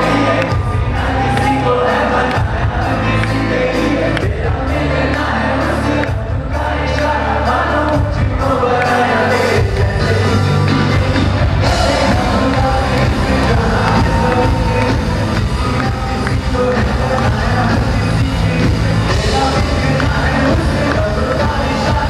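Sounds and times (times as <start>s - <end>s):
pop music with singing: 0.0s - 22.0s.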